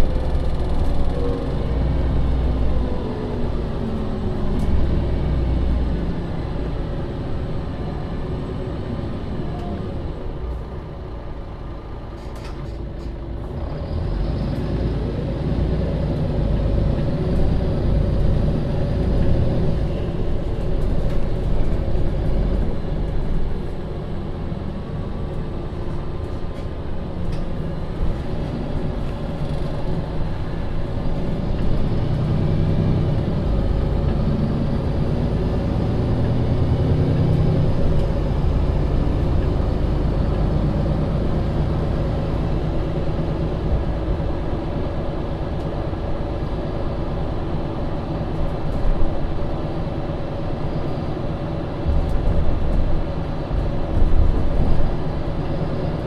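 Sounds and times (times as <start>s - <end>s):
bus diesel engine pulling: 0.0s - 56.0s.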